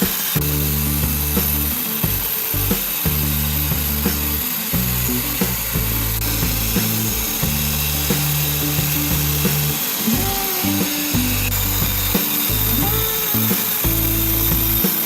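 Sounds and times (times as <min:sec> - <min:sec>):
background music with low notes: 0:00.0 - 0:15.0.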